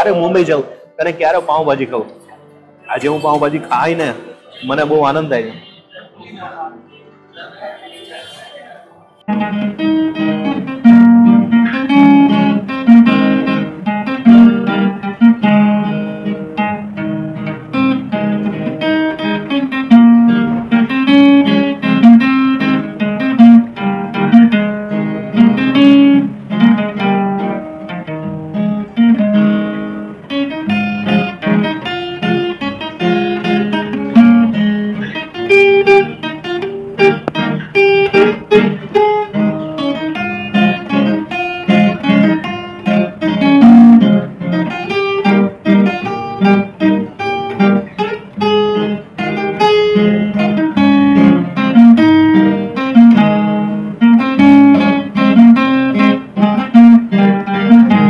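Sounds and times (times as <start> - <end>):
plucked string instrument quick notes: 7.3 - 58.0.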